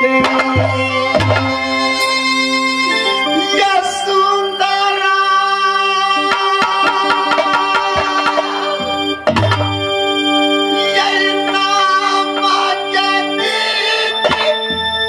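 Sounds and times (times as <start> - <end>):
person singing: 0.0 - 2.2, 2.8 - 9.6, 10.7 - 14.8
long held melodic notes: 0.0 - 15.0.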